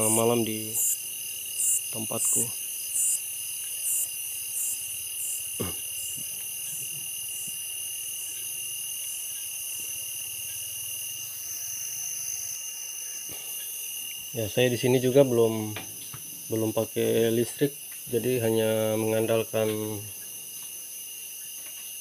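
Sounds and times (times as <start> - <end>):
crickets and insects trilling: 0.0 - 22.0
shrill pulsing insect call: 0.0 - 22.0.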